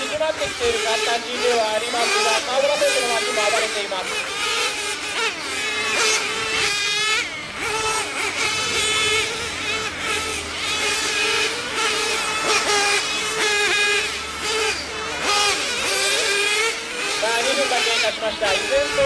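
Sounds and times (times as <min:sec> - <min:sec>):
rc car engines buzzing: 0:00.0 - 0:19.0.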